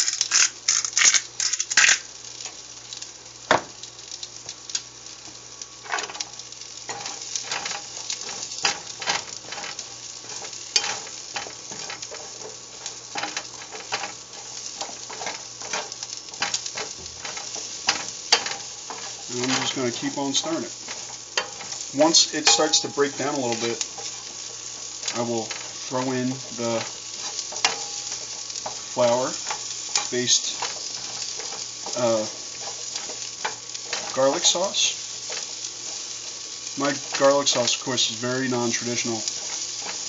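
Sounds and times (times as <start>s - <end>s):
vegetables sizzling in a frying pan: 0.0s - 40.0s
spatula scraping and knocking pan: 5.8s - 40.0s.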